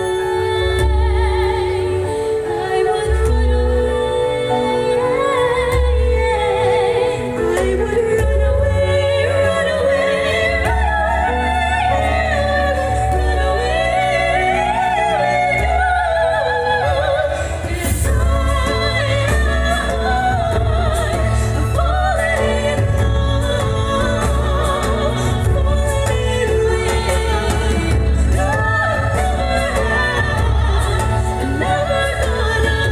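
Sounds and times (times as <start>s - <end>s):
backing track with steady bass: 0.0s - 32.9s
women singing a duet: 0.0s - 32.9s.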